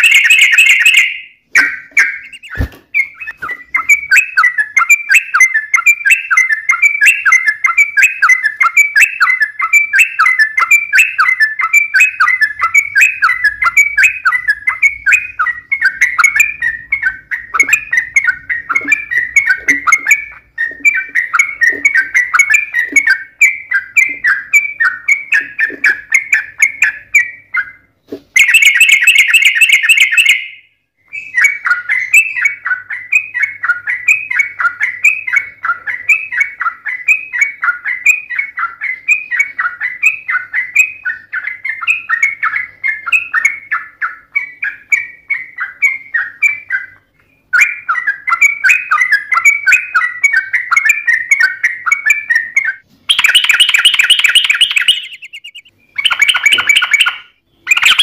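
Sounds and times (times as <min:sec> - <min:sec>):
bird bubbly chattering song: 0:00.0 - 0:58.0.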